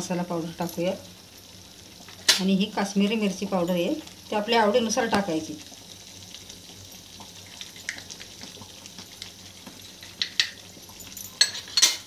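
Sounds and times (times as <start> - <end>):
gravy simmering and bubbling: 0.0 - 12.0.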